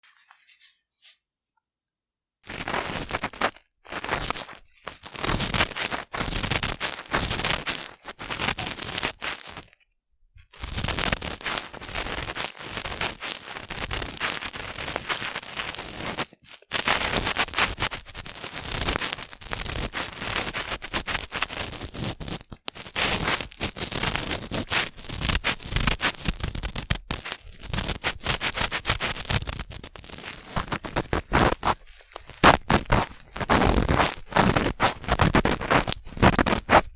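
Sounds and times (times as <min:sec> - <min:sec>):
cotton swabs scratchy rustling: 0:02.5 - 0:09.8, 0:10.5 - 0:36.9.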